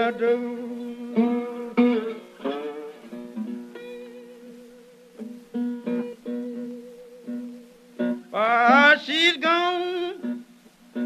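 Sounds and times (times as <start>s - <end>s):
acoustic guitar plucking: 0.0s - 11.0s.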